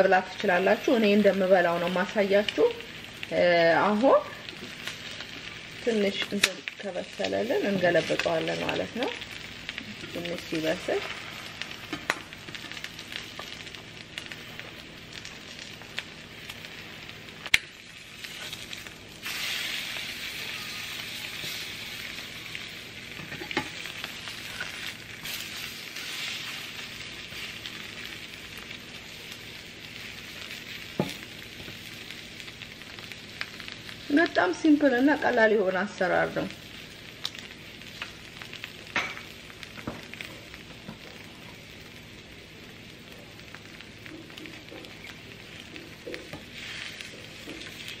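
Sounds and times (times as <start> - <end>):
eggs sizzling in a pan: 0.0 - 48.0.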